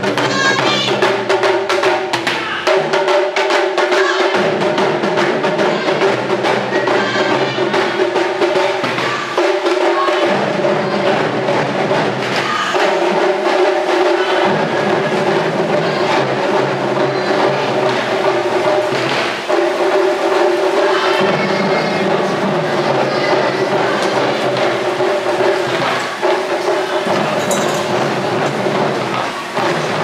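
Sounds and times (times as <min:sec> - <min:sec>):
taiko drums beating: 0:00.0 - 0:30.0.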